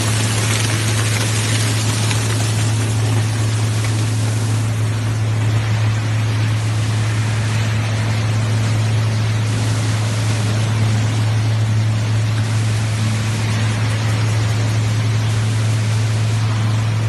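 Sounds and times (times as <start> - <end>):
low electric motor hum: 0.0 - 17.0
water churning and splashing: 0.0 - 17.0.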